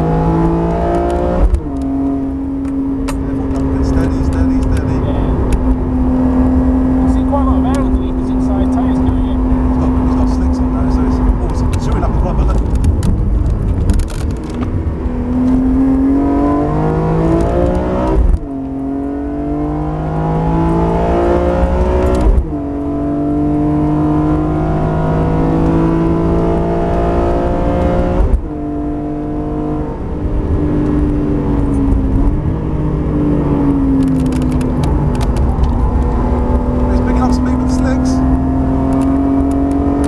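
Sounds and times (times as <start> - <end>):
car engine accelerating through gears: 0.0 - 40.0.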